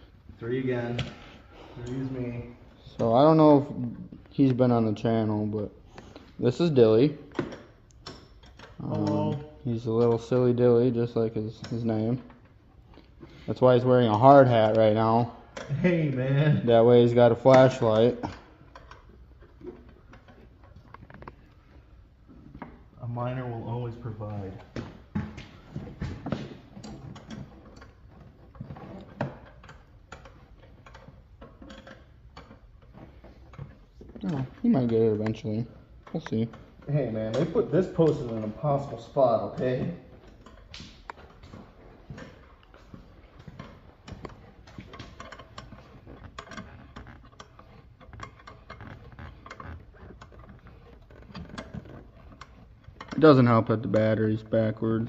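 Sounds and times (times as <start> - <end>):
hand tools clicking on metal: 5.9 - 21.9, 23.9 - 55.0.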